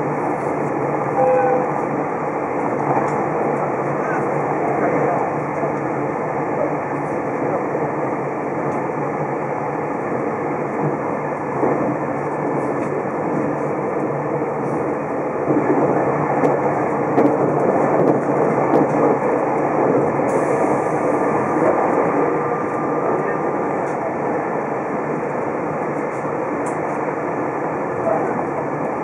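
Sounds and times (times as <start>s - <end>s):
train car rumble: 0.0s - 29.0s
train wheels on rails: 0.0s - 29.0s.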